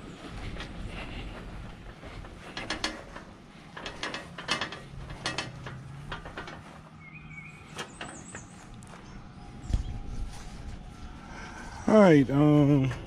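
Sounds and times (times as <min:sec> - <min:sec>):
metal hand truck rattling: 0:00.0 - 0:13.0.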